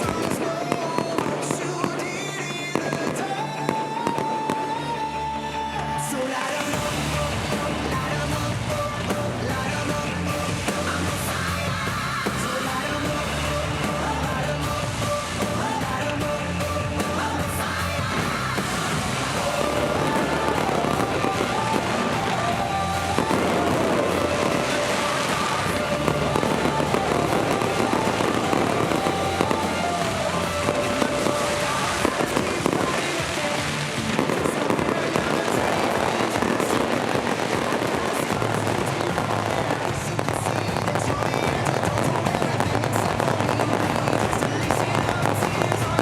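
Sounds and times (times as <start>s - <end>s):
fireworks crackling and popping: 0.0s - 46.0s
music with melody and bass: 0.0s - 46.0s.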